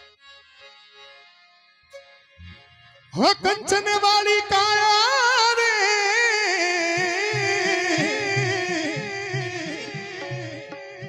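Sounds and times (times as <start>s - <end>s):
harmonium and keyboard: 0.0s - 11.0s.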